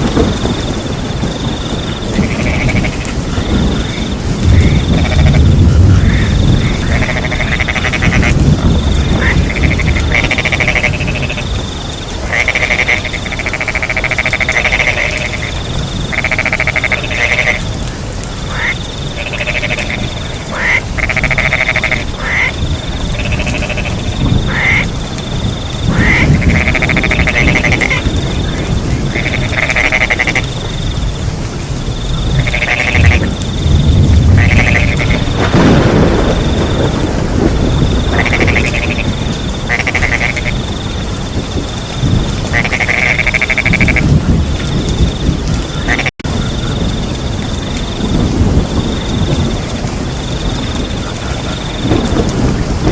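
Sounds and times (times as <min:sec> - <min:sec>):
crickets chirping: 0:00.0 - 0:52.9
frogs croaking: 0:00.0 - 0:52.9.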